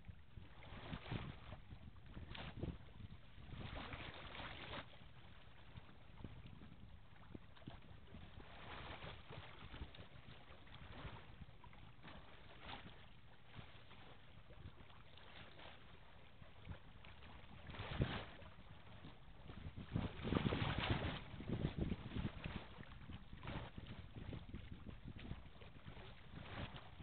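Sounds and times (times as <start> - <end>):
faint wind on microphone: 0.0 - 27.0.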